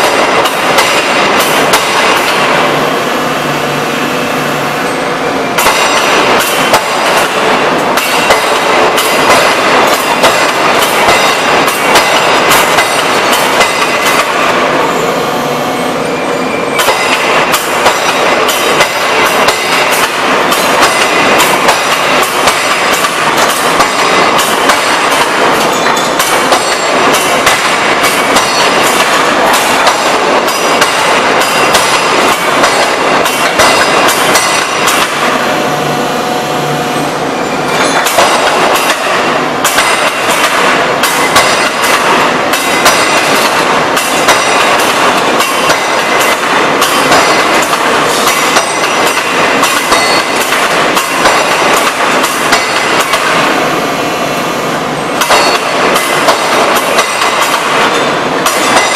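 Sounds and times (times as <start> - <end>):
forging hammer blows: 0.0 - 15.0, 16.5 - 54.0, 55.2 - 58.9.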